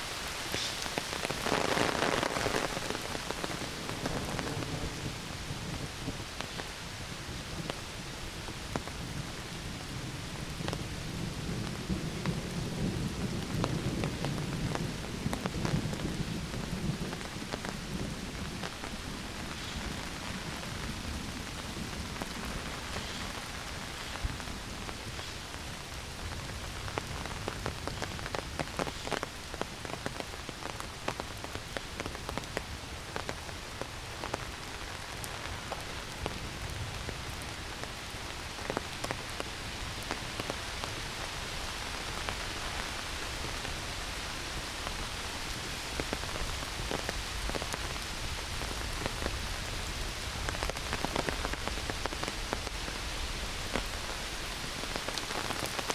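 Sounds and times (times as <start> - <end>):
close raindrop hits: 0.0 - 55.9
heavy rain hiss: 0.0 - 55.9.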